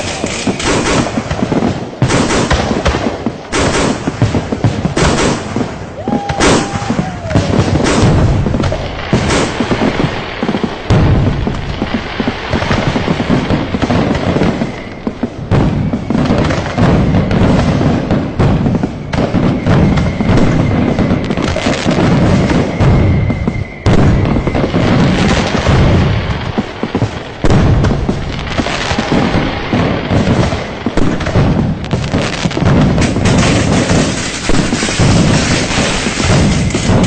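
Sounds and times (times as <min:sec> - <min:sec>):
firecracker and fireworks bangs: 0:00.0 - 0:37.0.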